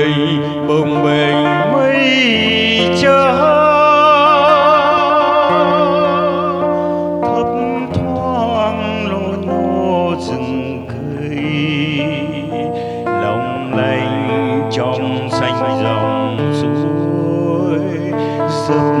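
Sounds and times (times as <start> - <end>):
held accompaniment: 0.0 - 19.0
melody with strong vibrato: 0.0 - 19.0.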